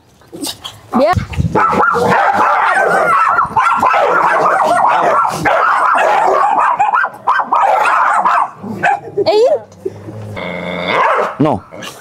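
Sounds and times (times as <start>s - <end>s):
dogs barking and yapping: 0.3s - 12.0s.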